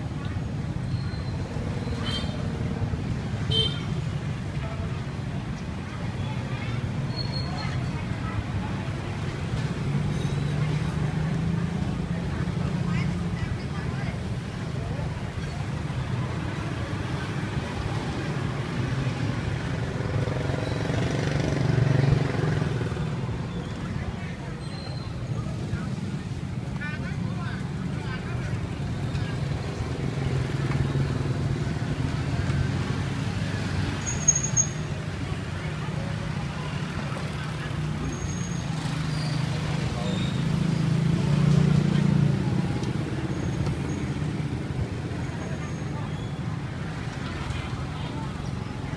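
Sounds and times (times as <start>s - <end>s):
street traffic: 0.0s - 48.9s
people talking: 4.4s - 48.9s.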